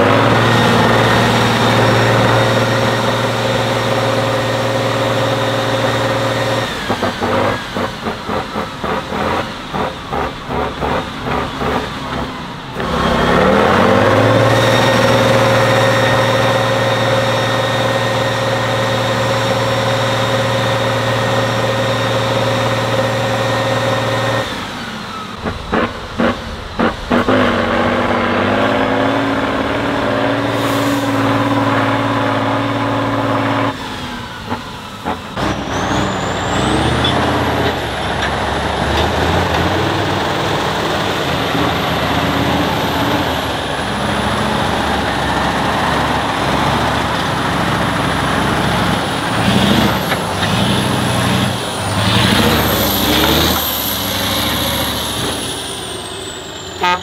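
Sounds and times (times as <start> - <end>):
diesel truck engine revving: 0.0 - 57.0.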